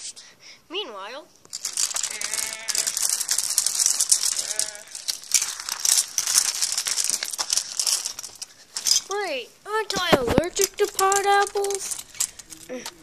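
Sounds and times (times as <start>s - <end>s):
toys rattling and clattering: 1.4s - 13.0s.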